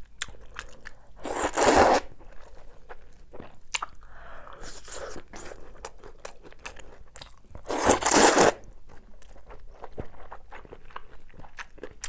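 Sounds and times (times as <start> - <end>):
person chewing and crunching food: 0.0 - 12.0.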